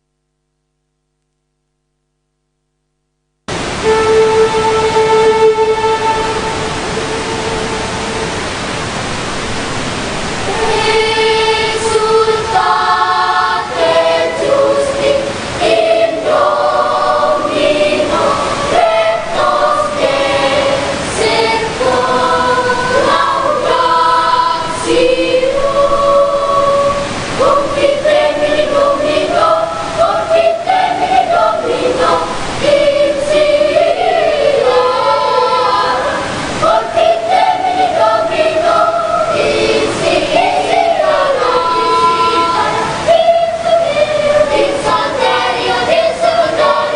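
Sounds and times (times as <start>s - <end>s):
children's choir singing: 3.5s - 46.9s.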